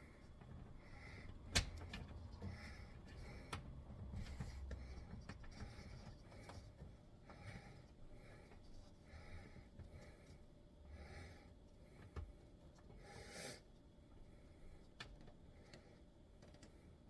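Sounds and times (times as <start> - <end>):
heavy breathing: 0.0 - 14.9.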